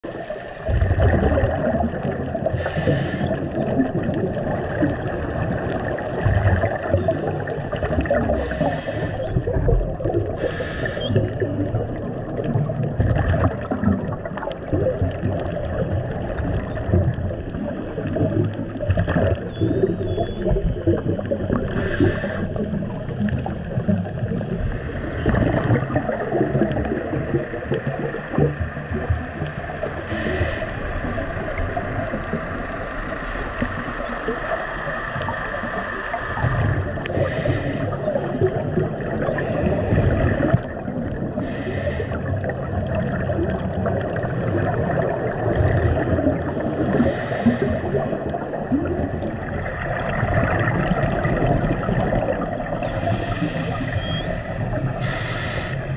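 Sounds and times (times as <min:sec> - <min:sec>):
underwater rumble and crackle: 0:00.0 - 0:55.9
scuba regulator bubbles hissing: 0:00.6 - 0:55.9.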